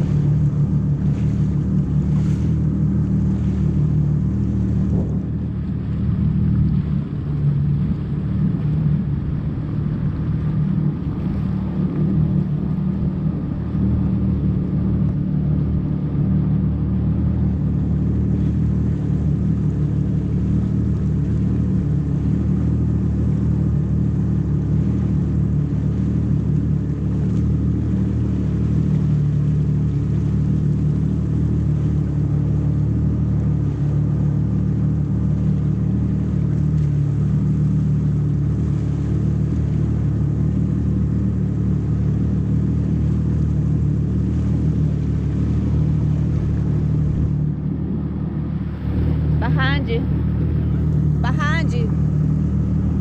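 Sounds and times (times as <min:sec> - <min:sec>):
jet ski engine running: 0:00.0 - 0:53.0.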